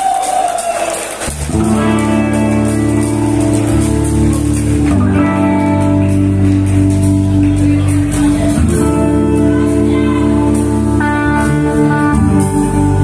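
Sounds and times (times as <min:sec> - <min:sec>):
band playing electric guitar chords: 0:01.2 - 0:13.0.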